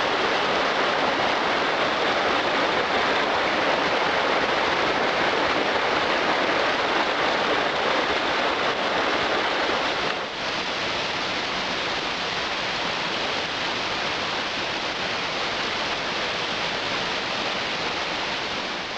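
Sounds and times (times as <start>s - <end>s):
stream rushing over rocks: 0.0s - 18.9s.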